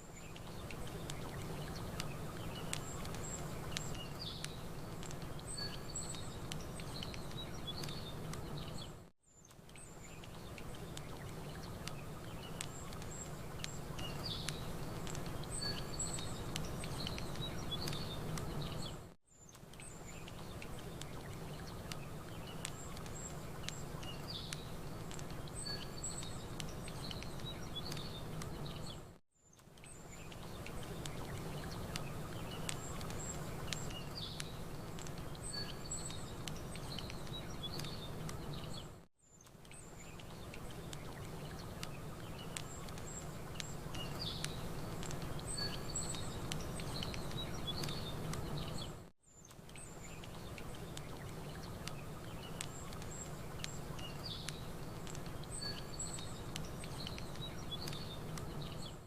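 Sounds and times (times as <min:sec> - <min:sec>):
campfire crackling: 0:00.0 - 0:59.0
small birds chirping: 0:00.0 - 0:59.0.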